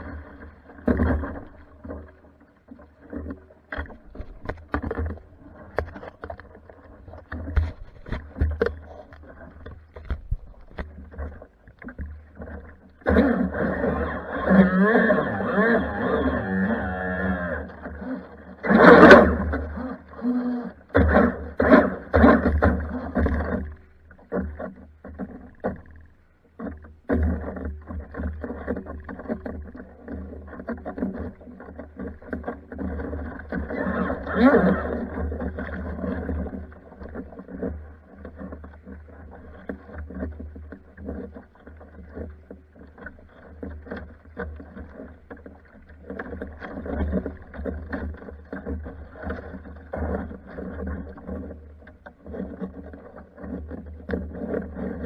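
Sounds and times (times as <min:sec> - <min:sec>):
water slapping against hull: 0:00.0 - 0:55.0.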